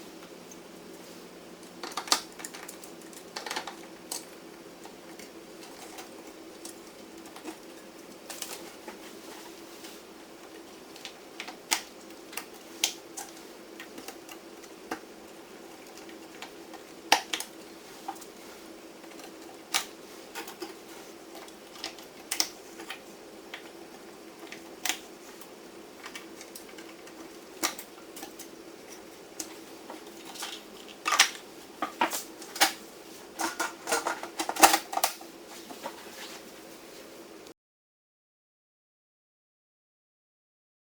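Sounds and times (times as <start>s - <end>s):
steady hum: 0.0s - 37.5s
clicks and clatter of server parts: 1.6s - 36.4s.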